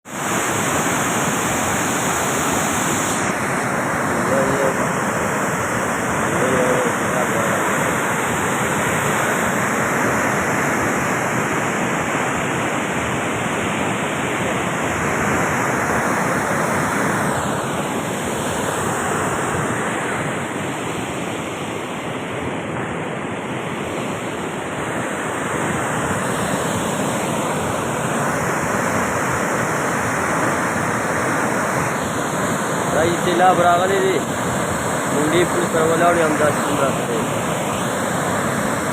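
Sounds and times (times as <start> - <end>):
floodwater rushing: 0.1 - 38.9.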